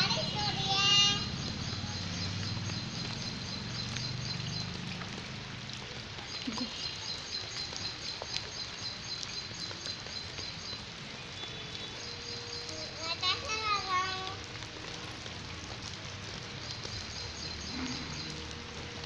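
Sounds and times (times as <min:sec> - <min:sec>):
light rain on a wet street: 0:00.0 - 0:19.0.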